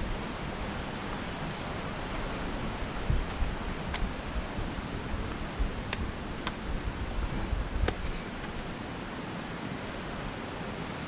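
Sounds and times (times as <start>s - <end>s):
wind rumble on microphone: 0.0s - 9.1s.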